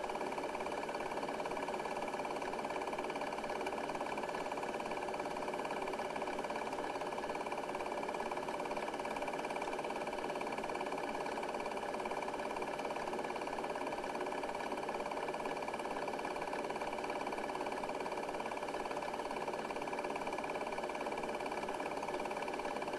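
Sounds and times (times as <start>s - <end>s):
film projector whirring and clattering: 0.0s - 22.9s.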